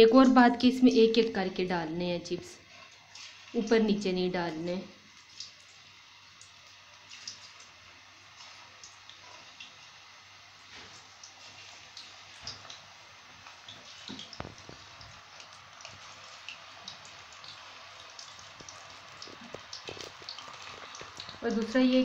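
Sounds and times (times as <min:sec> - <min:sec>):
potato slices sizzling in hot oil: 0:00.1 - 0:22.0.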